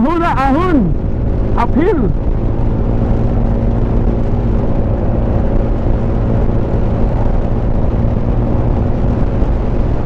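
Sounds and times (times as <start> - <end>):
motorcycle engine running under load: 1.0 - 10.0.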